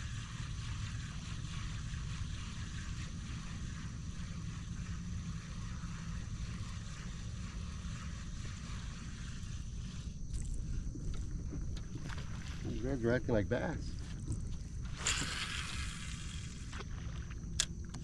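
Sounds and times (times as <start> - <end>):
kayak moving on water: 0.0 - 15.4
faint high whine: 0.0 - 18.0.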